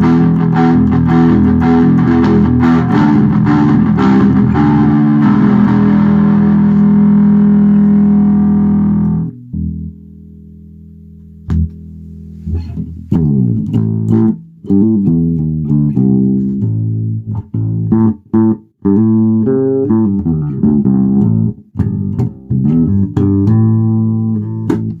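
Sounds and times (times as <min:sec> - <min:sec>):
electric bass plucked notes: 0:00.0 - 0:25.0.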